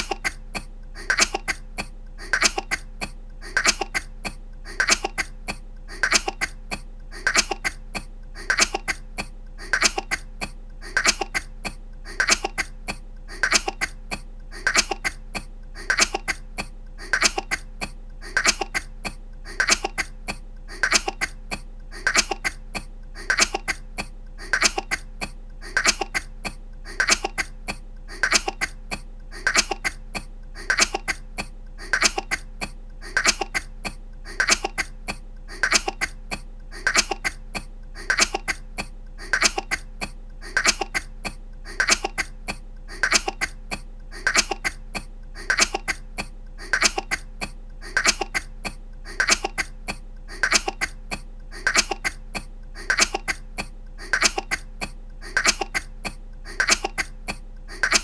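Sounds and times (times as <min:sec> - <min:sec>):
low steady hum: 0:00.0 - 0:58.0
woman coughing: 0:00.0 - 0:58.0.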